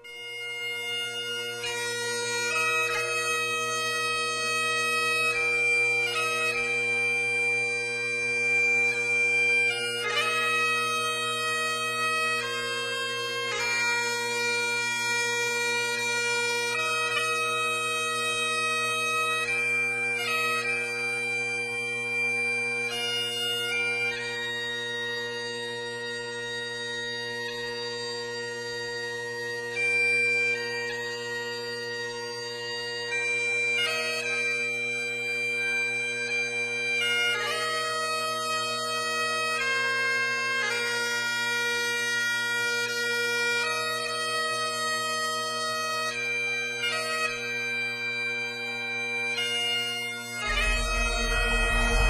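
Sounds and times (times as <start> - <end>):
bagpipes playing slow melody: 0.0 - 52.0.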